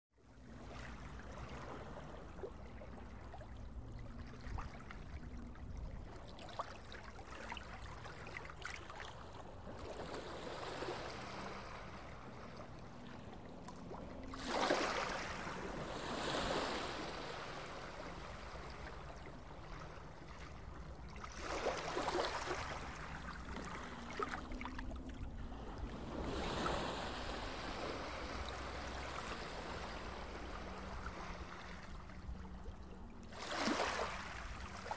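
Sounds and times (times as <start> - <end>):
water washing and waves: 0.2 - 34.9.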